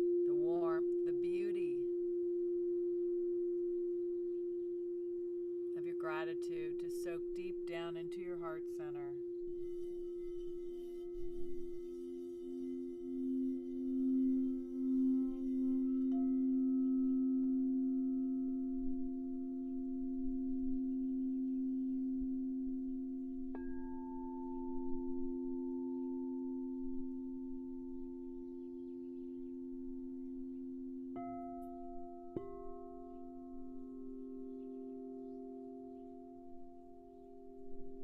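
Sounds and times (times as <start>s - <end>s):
singing bowls ringing: 0.0s - 38.0s
singing bowl strikes: 7.4s - 37.9s.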